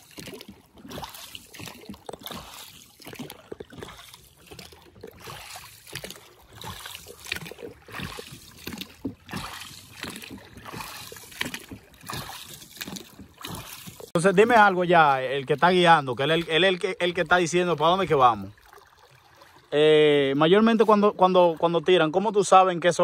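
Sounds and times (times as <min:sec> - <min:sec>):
oars splashing in water: 0:00.0 - 0:23.0.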